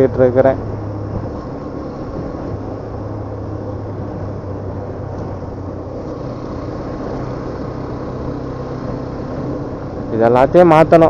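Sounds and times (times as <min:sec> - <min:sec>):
motorcycle engine hum: 0:00.0 - 0:11.0
road and wind noise: 0:00.0 - 0:11.0.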